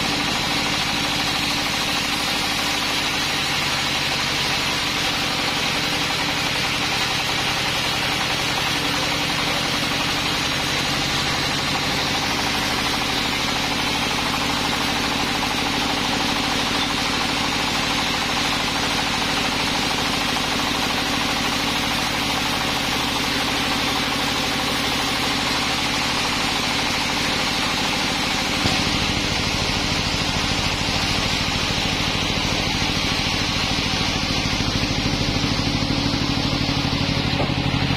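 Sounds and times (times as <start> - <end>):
sawmill engine running: 0.0 - 37.9.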